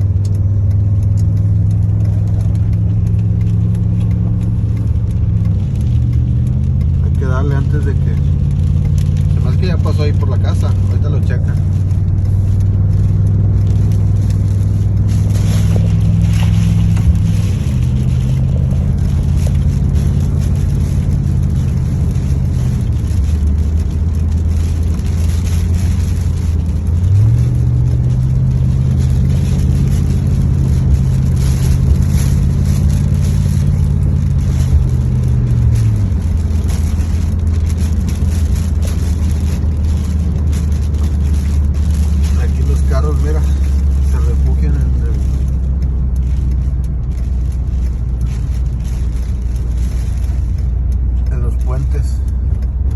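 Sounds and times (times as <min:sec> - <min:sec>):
car engine drone: 0:00.0 - 0:52.9
road noise: 0:00.0 - 0:52.9.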